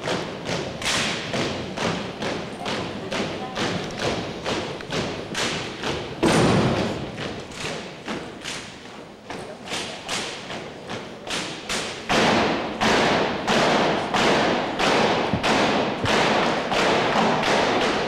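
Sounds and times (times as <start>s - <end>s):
heavy unison thumps: 0.0s - 8.4s, 10.5s - 18.0s
boots stamping in unison: 0.0s - 18.0s.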